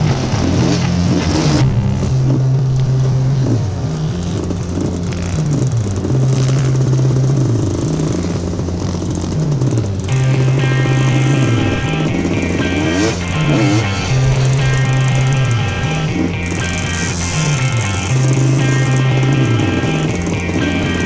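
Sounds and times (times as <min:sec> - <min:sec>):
off-road motorcycle engine: 0:00.0 - 0:21.0.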